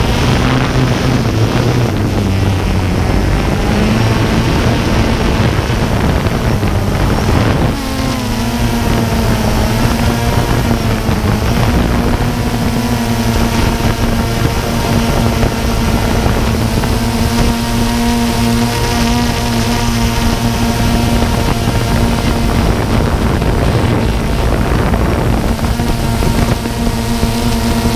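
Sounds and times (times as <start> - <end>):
drone motors and propellers whirring: 0.0 - 27.9
wind buffeting microphone: 0.0 - 27.9.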